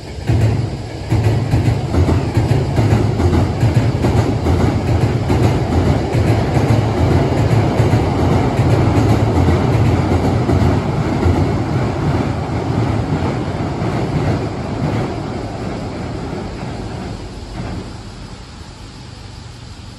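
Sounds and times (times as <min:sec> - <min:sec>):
train rumbling over steel bridge: 0:00.0 - 0:19.9.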